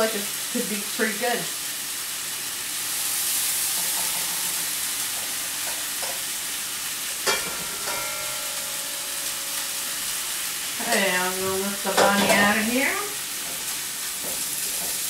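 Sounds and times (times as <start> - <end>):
meat sizzling in frying pan: 0.0 - 15.0.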